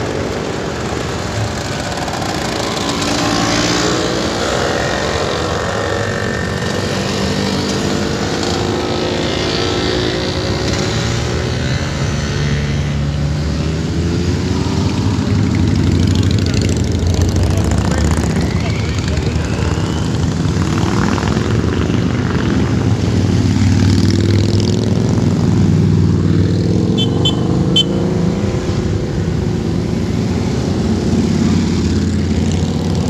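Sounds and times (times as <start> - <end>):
motorcycles riding past: 0.0 - 33.0.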